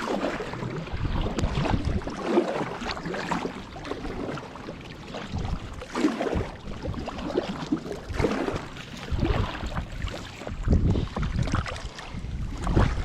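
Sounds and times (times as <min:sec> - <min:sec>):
kayak splashing: 0:00.0 - 0:13.0.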